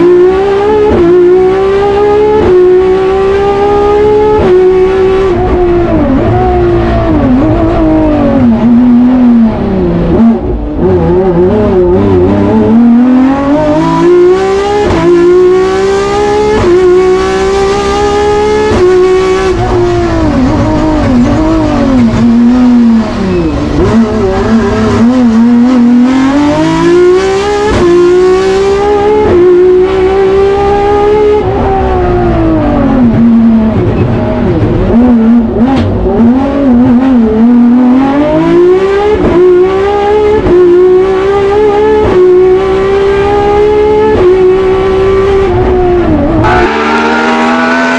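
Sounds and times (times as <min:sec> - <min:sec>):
race car engine revving: 0:00.0 - 0:47.9
throttle blips on downshifts: 0:00.0 - 0:47.9.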